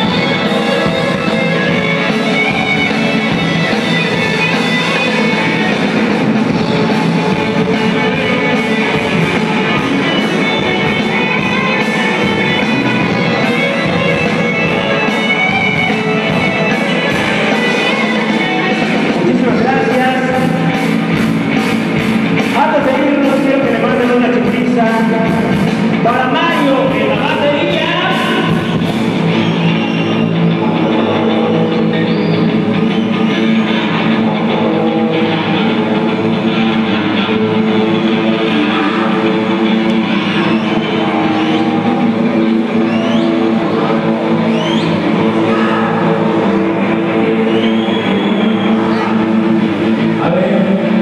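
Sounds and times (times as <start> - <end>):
loud rock song: 0.0 - 51.0.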